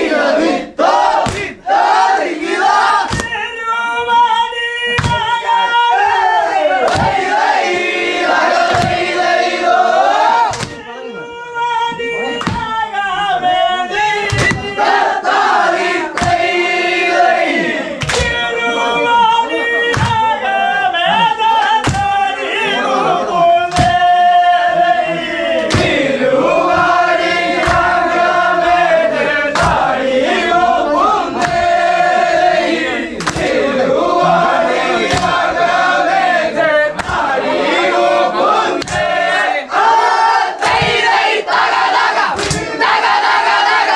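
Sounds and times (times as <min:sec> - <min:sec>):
men singing together: 0:04.1 - 0:10.8, 0:11.9 - 0:43.9.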